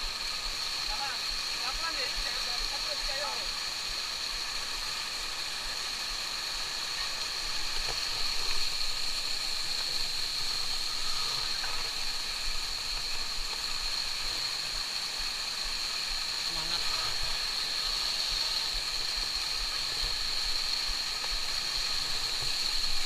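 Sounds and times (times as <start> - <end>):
high hiss: 0.0 - 23.0
water rushing: 0.0 - 23.0.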